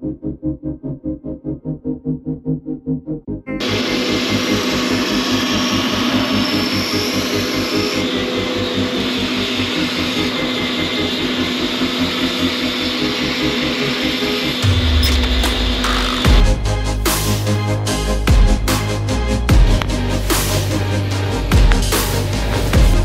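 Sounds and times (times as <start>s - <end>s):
belt sander grinding metal: 3.6s - 23.0s.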